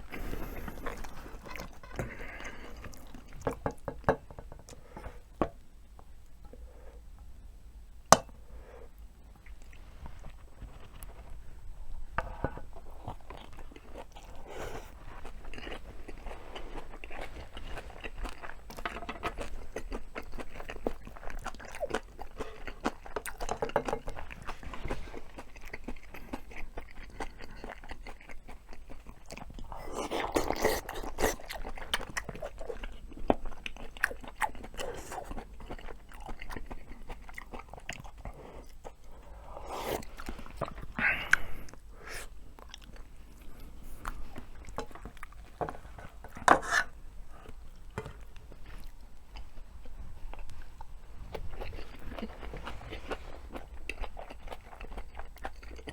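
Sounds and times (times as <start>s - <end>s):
close-miked chewing: 0.0s - 5.4s, 8.8s - 55.9s.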